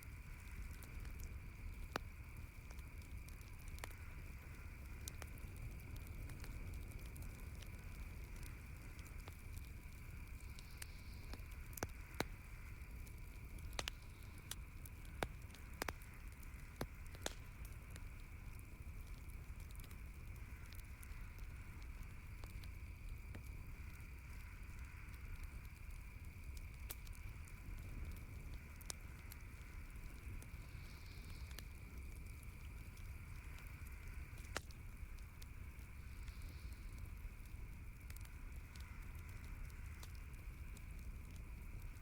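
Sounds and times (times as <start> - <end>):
campfire crackling: 0.0 - 42.0
sharp pops and snaps: 0.0 - 42.0
steady background hiss: 0.0 - 42.0.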